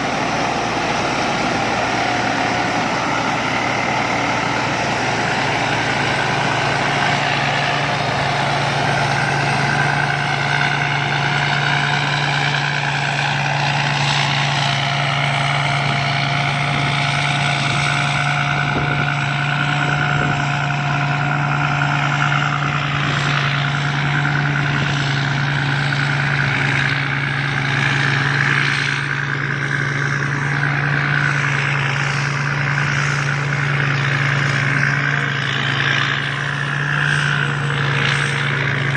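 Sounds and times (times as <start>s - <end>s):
combine harvester engine hum: 0.0s - 38.9s.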